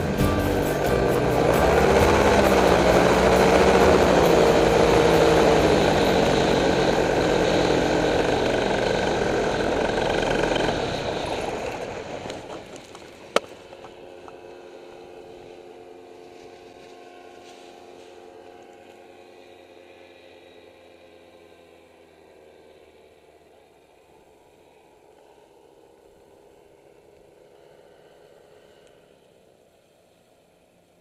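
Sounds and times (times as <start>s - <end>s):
paramotor engine running: 0.0s - 31.0s.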